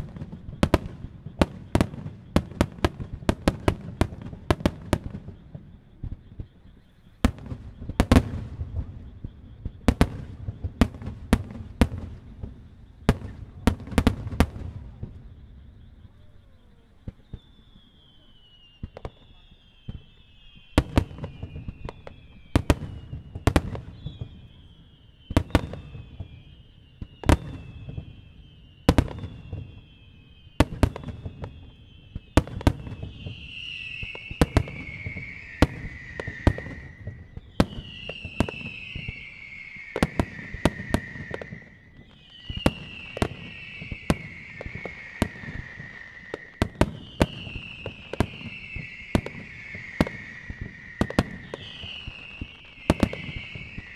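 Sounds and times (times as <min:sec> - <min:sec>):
falling firework whistle: 0:00.0 - 0:53.9
fireworks shells booming: 0:00.0 - 0:53.9.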